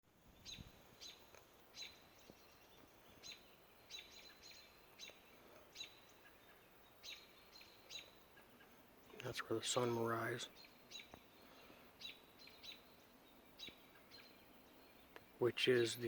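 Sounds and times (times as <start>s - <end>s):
bird chirping: 0.1s - 16.0s.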